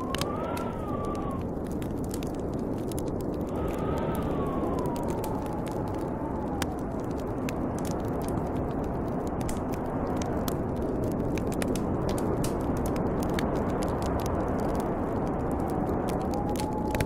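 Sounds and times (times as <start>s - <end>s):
bonfire crackling and popping: 0.0s - 17.0s
strong wind blowing: 0.0s - 17.0s.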